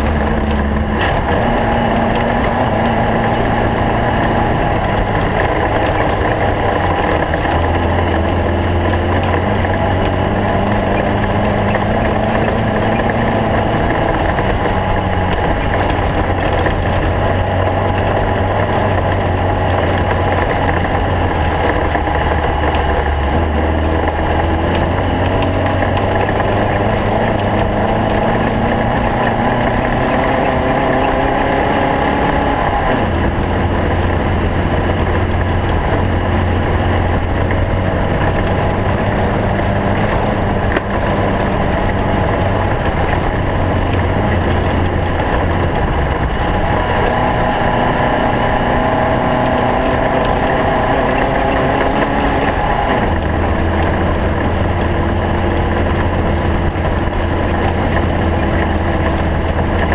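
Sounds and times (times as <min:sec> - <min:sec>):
air-cooled engine running hard: 0:00.0 - 0:59.9.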